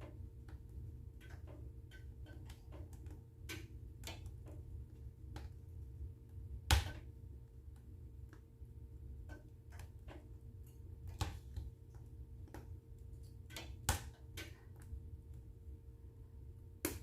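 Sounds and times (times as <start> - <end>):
wood fire crackling: 0.0 - 15.7
low steady rumble: 0.0 - 16.9.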